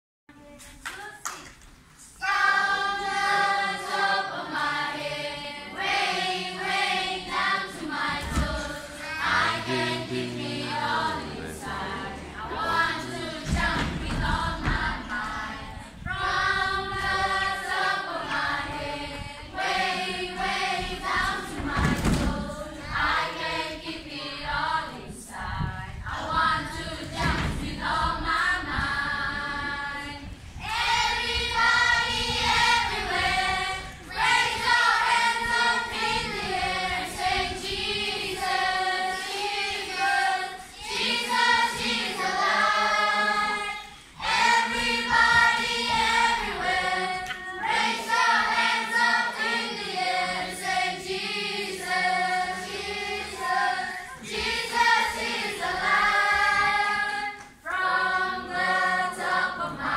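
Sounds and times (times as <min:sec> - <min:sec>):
children's choir singing: 0:02.0 - 0:59.9.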